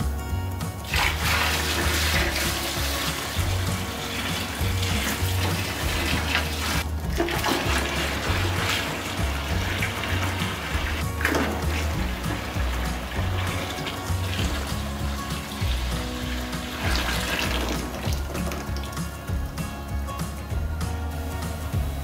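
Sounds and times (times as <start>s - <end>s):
background music: 0.0s - 22.0s
liquid pouring into a plastic bag: 0.9s - 19.0s.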